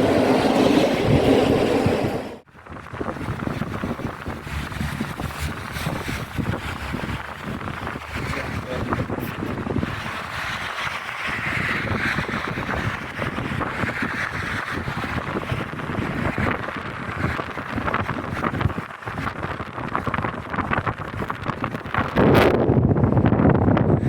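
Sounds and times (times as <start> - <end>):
train rumbling clatter: 0.0 - 24.0
wind buffeting microphone: 0.0 - 24.0.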